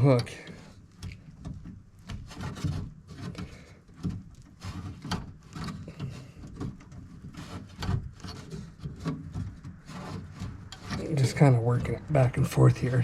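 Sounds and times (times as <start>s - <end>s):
wiring connector rubbing and scraping: 0.0s - 13.0s.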